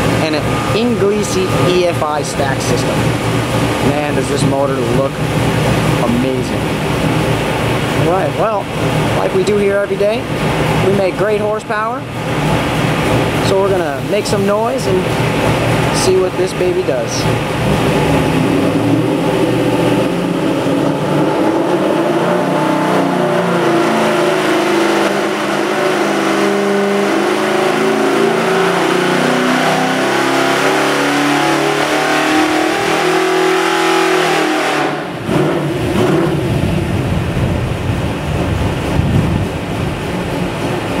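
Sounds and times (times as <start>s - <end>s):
engine revving on dyno: 0.0s - 41.0s.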